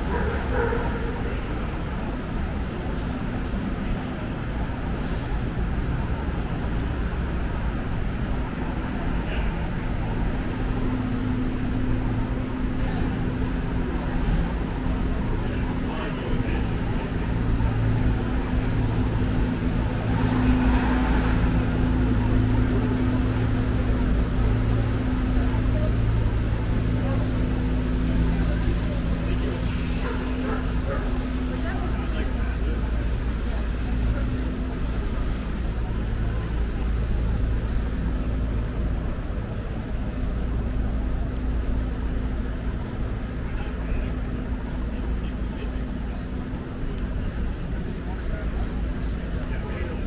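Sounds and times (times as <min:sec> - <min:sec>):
city street noise: 0:00.0 - 0:50.0
engine idling: 0:07.0 - 0:50.0.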